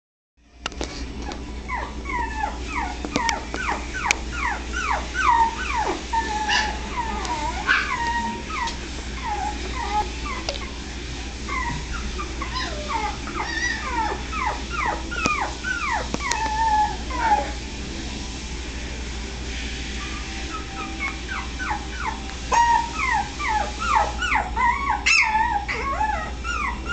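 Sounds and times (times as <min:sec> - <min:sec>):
puppies whining and yipping: 0:01.0 - 0:17.7, 0:20.0 - 0:26.9.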